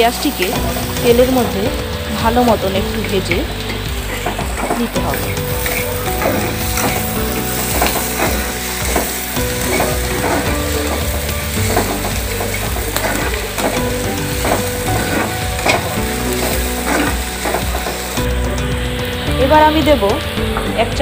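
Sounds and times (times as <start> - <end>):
onions sizzling in oil: 0.0 - 21.0
spatula scraping pan: 0.3 - 18.2.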